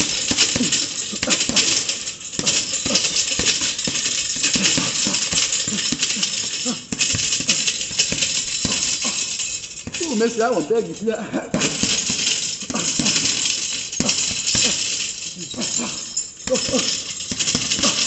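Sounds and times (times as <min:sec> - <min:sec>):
boxing gloves punching bag: 0:00.0 - 0:18.0
clinking rattle: 0:00.0 - 0:18.0.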